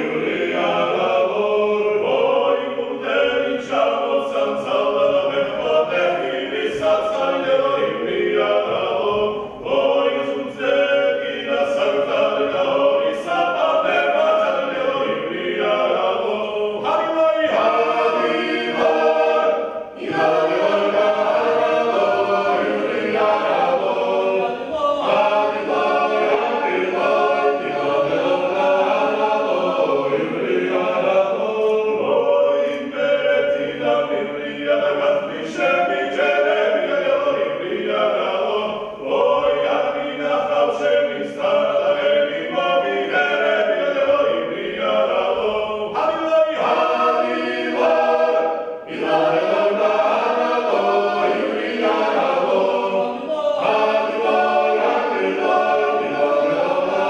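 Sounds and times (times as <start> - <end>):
choir singing unaccompanied: 0.0 - 57.0.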